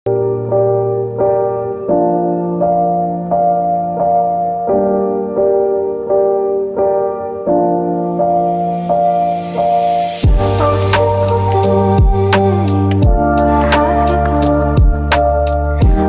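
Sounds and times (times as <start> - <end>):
piano chords: 0.1 - 16.0.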